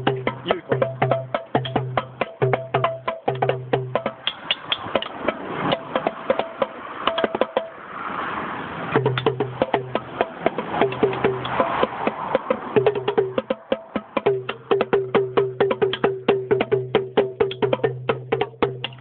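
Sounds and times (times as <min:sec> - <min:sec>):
small drums beaten fast: 0:00.0 - 0:07.9, 0:08.9 - 0:19.0
rushing noise: 0:00.0 - 0:15.8.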